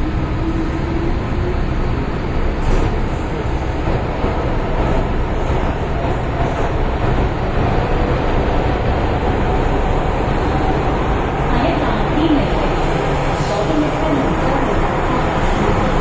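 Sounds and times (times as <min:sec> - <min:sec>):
metro train wheels rumbling: 0:00.0 - 0:16.0.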